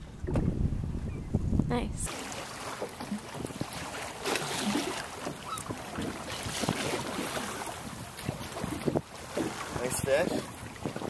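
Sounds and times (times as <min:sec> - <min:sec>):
wind buffeting microphone: 0:00.0 - 0:02.1, 0:03.1 - 0:11.0
water splashing against boat: 0:00.0 - 0:11.0.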